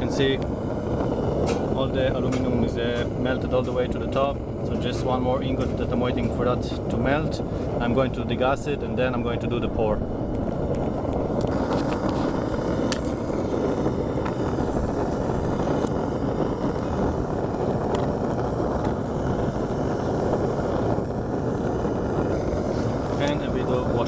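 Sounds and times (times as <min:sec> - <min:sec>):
furnace burner rushing: 0:00.0 - 0:24.0.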